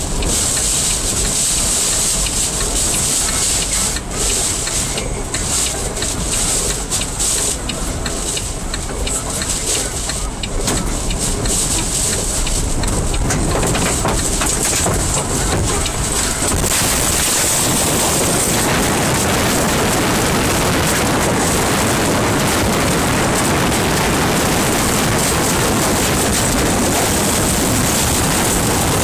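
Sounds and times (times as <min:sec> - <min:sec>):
heavy rain lashing a vehicle: 0:00.0 - 0:29.0
tornado wind: 0:00.0 - 0:29.0.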